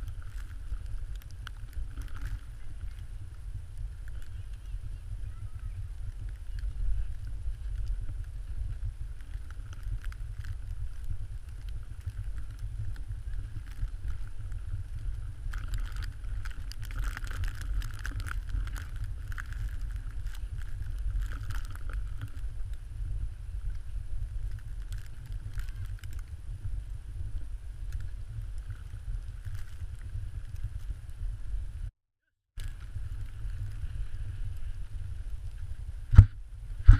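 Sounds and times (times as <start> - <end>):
crunching and scraping in snow: 0.0 - 31.6, 32.6 - 36.9
wind buffeting microphone: 0.0 - 31.9, 32.6 - 36.9.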